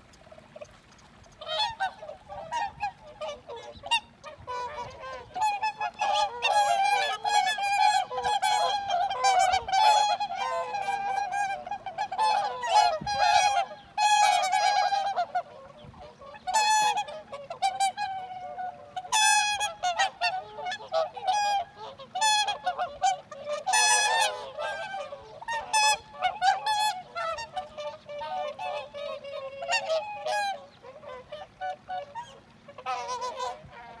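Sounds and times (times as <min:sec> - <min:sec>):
swans honking: 0:00.0 - 0:34.0.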